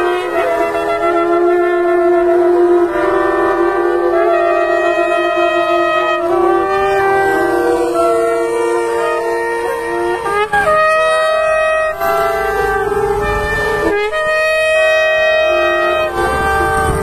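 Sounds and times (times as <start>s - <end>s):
shofars blowing: 0.0s - 17.0s.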